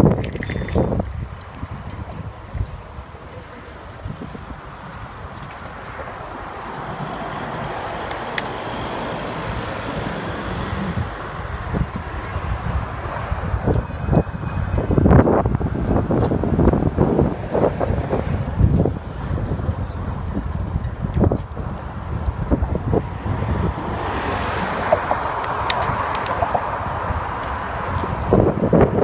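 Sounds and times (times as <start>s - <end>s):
road traffic: 0.0s - 29.0s
wind buffeting microphone: 0.0s - 29.0s.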